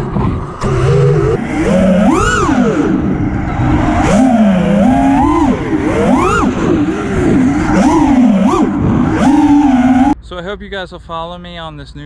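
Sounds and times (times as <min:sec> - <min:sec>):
quadcopter motors whining: 0:00.0 - 0:10.2.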